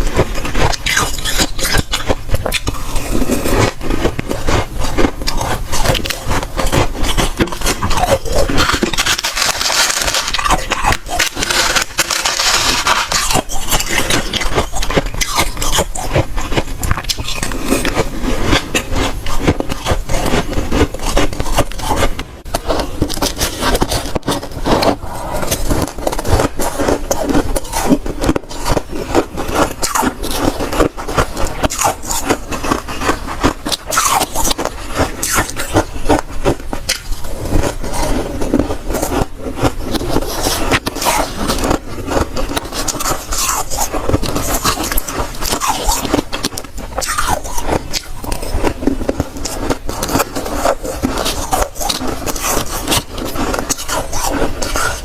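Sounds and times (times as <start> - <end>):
frost being crunched and chewed: 0.0 - 55.0.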